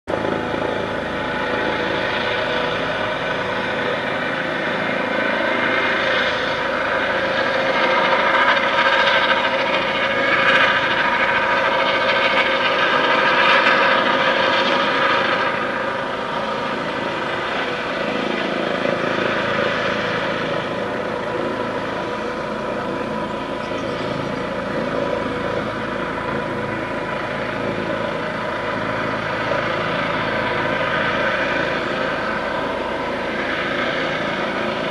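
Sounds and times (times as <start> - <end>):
helicopter flying overhead: 0.0 - 34.9.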